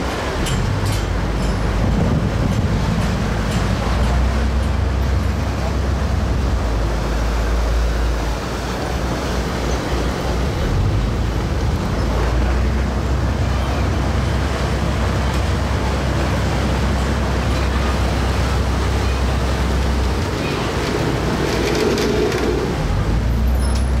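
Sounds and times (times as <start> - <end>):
ferry engine rumbling: 0.0 - 24.0
water noise: 0.0 - 24.0
wind: 0.0 - 24.0.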